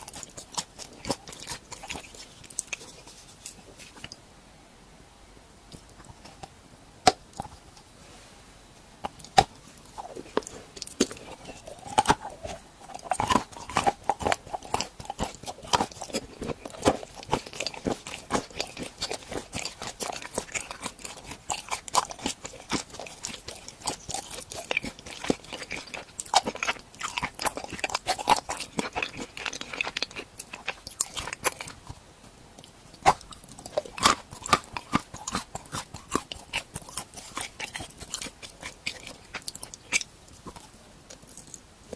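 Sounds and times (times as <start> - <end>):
crunchy biting and chewing: 0.0 - 4.2, 9.0 - 41.6.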